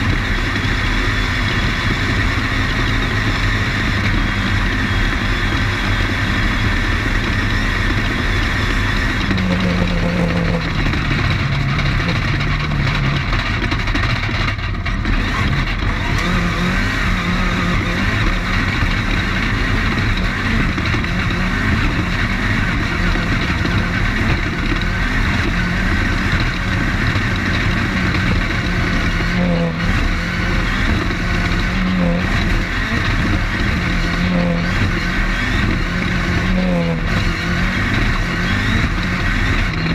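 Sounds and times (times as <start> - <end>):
race car engine running: 0.0 - 39.9
road and wind noise: 0.0 - 39.9.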